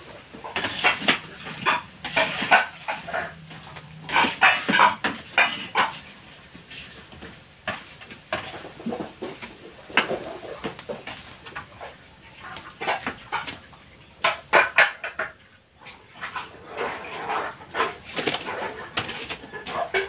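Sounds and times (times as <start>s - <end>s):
crackers frying in hot oil: 0.0s - 20.0s
metal utensils scraping a wok: 0.0s - 20.0s.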